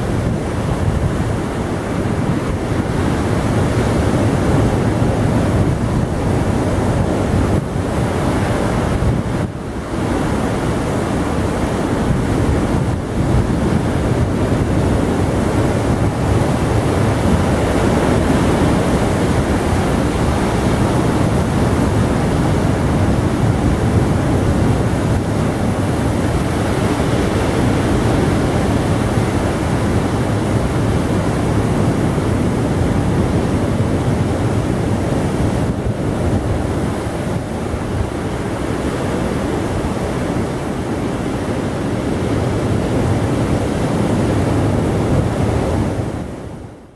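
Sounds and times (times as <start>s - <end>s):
wind rumbling on microphone: 0.0s - 46.9s.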